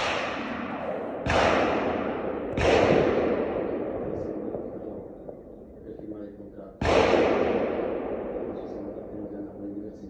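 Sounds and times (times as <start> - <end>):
gunshots with long echo: 0.0 - 10.0.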